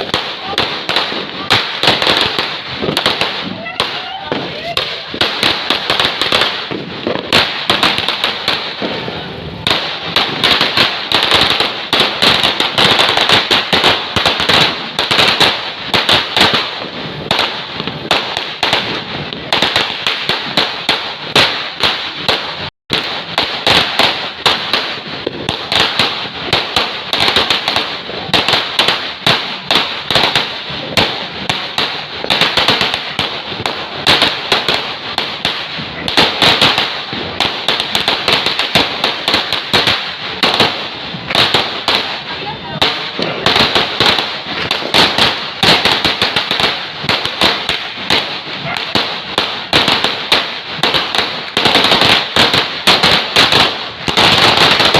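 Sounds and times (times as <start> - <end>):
firecrackers crackling bangs: 0.0 - 54.9.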